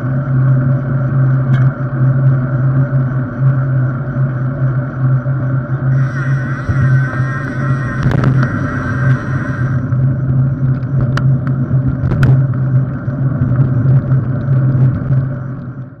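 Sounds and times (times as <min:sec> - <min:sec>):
bike rolling on asphalt: 0:00.0 - 0:16.0.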